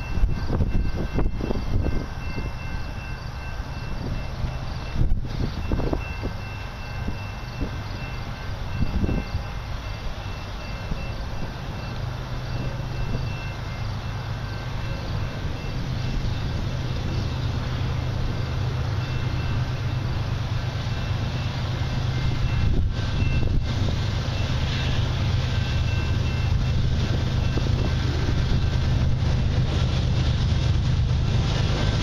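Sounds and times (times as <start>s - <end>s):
distant locomotive rumble: 0.0s - 32.0s.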